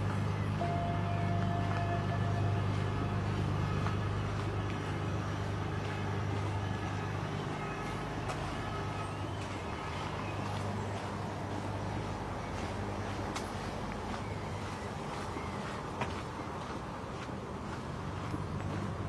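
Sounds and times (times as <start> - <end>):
vehicle engines humming: 0.0 - 19.0.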